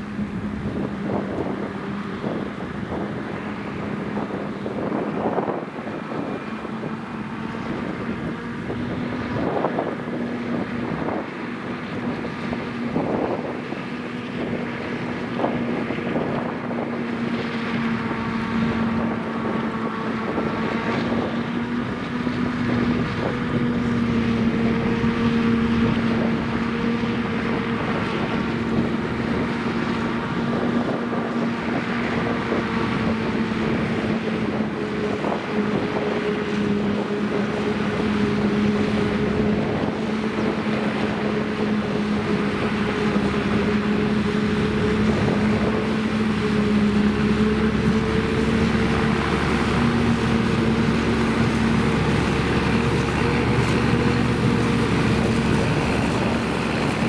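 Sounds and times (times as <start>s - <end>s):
forage harvester droning: 0.0s - 57.0s
tractor pulling trailer: 0.0s - 57.0s.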